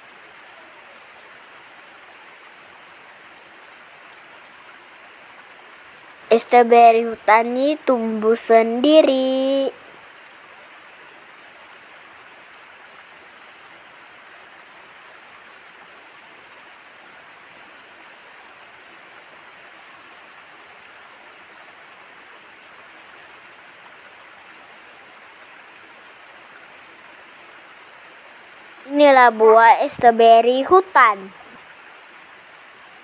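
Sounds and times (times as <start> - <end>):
rushing outdoor background noise: 0.0 - 33.0.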